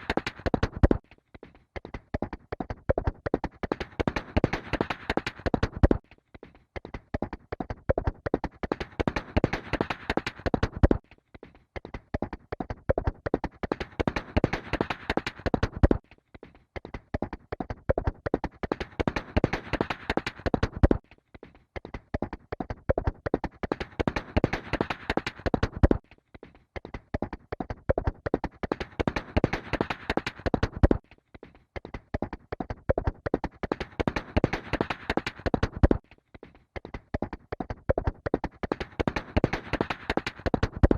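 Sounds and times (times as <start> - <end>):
horse galloping hoofbeats: 0.0 - 1.0, 1.8 - 6.0, 6.8 - 11.0, 11.8 - 16.0, 16.8 - 21.0, 21.8 - 26.0, 26.8 - 31.0, 31.8 - 40.9.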